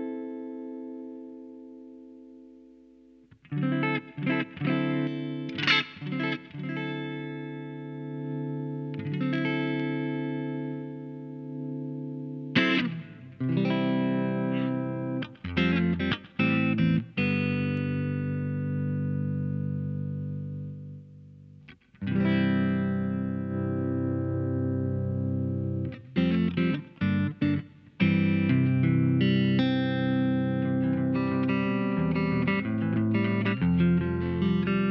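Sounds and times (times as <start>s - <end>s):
electric guitar chords: 0.0s - 34.9s.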